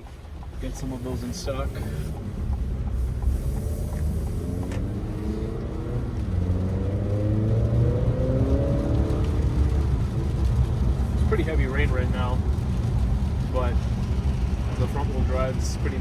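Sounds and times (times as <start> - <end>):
car engine accelerating hard: 0.0 - 16.0
low road rumble: 0.0 - 16.0.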